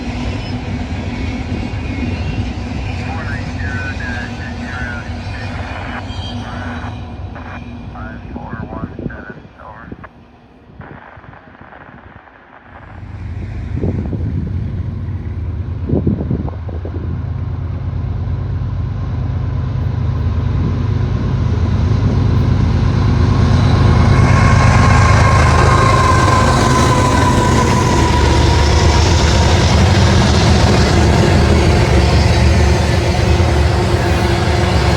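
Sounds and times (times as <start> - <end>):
wheels rushing on rail: 0.0 - 8.1, 12.7 - 34.9
deep train rumble: 0.0 - 34.9.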